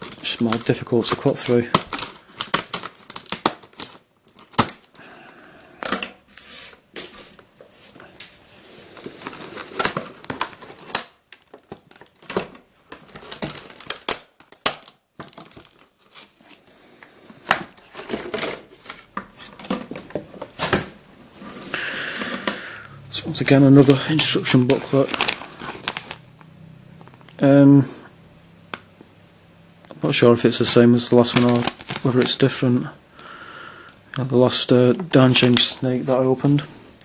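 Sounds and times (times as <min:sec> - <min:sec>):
plastic packaging crackling: 0:00.0 - 0:21.0, 0:21.6 - 0:27.5, 0:30.0 - 0:32.9, 0:33.9 - 0:36.8.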